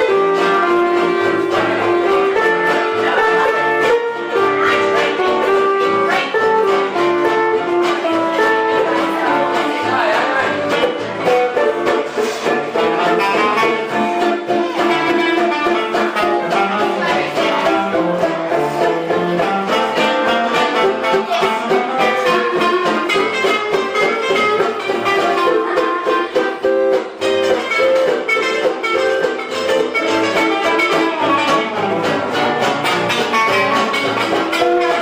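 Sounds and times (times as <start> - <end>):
live band playing: 0.0 - 35.0
plucked string instruments: 0.0 - 35.0.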